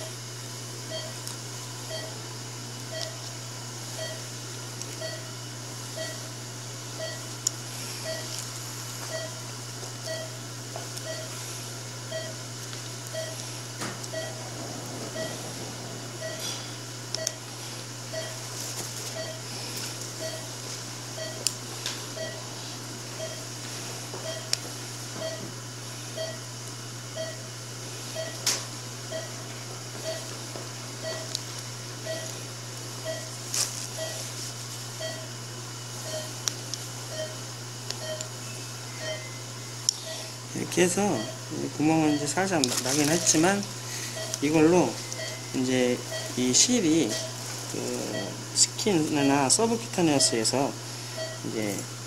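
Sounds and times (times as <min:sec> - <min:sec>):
steady low hum: 0:00.0 - 0:52.0
patient monitor beeping: 0:00.9 - 0:01.2, 0:01.9 - 0:02.2, 0:02.8 - 0:04.3, 0:04.9 - 0:06.3, 0:07.0 - 0:08.4, 0:09.0 - 0:10.4, 0:11.0 - 0:21.5, 0:22.1 - 0:25.5, 0:26.1 - 0:26.5, 0:27.1 - 0:30.4, 0:31.0 - 0:31.4, 0:32.0 - 0:32.4, 0:33.0 - 0:33.4, 0:34.0 - 0:34.3, 0:35.0 - 0:35.3, 0:36.0 - 0:51.8.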